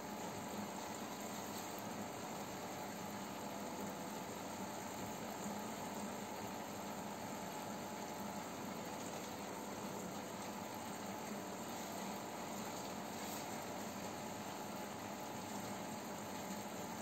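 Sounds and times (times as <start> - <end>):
aquarium equipment humming: 0.0 - 17.0.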